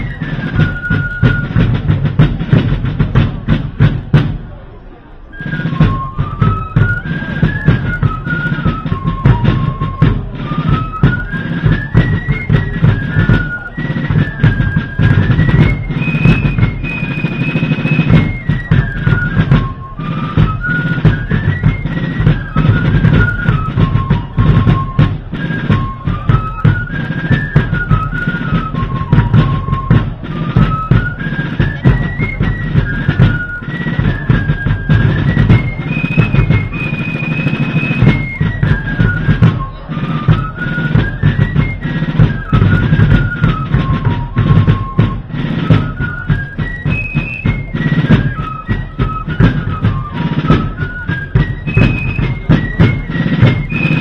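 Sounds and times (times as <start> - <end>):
snare and bass drums beating: 0.0 - 4.6, 5.4 - 54.0.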